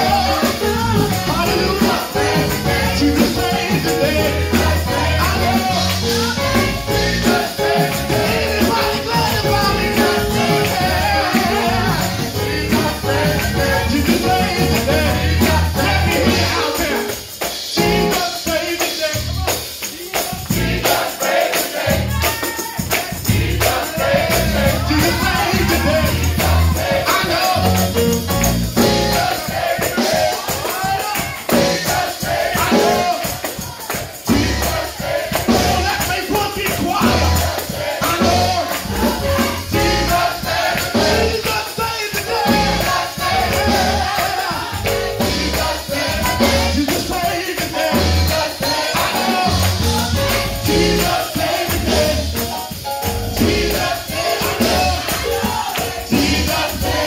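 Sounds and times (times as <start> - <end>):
choir singing gospel song: 0.0 - 57.0
steady percussive beat: 0.0 - 57.0.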